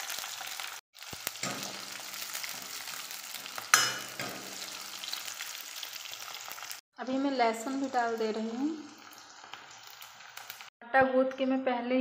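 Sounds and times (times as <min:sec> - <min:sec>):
chillies sizzling in hot oil: 0:00.0 - 0:10.7.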